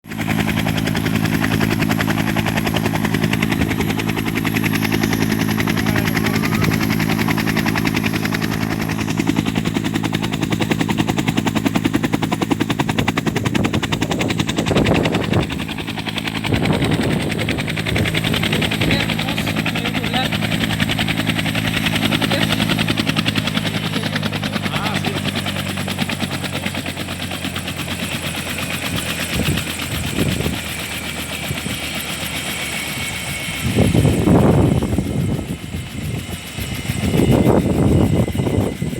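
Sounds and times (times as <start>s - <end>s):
helicopter engine drone: 0.0s - 38.9s
helicopter rotor blades chopping: 0.0s - 38.9s.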